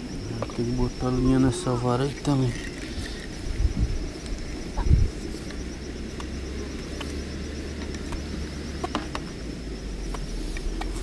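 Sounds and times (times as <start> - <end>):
insect trill: 0.0 - 11.0.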